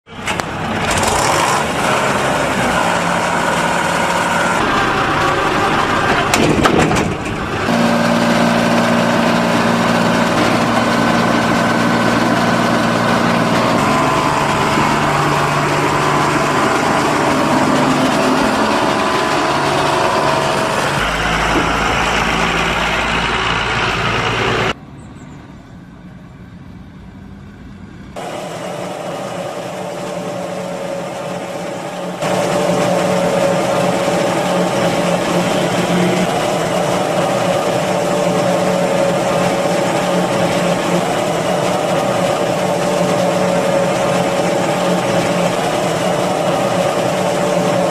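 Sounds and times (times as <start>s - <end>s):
diesel engine running: 0.0s - 47.9s
loud burst of noise: 0.1s - 24.8s, 28.2s - 47.9s.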